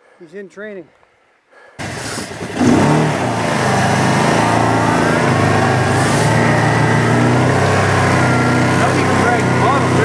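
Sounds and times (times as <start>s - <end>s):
vehicle engine driving: 1.8s - 10.0s.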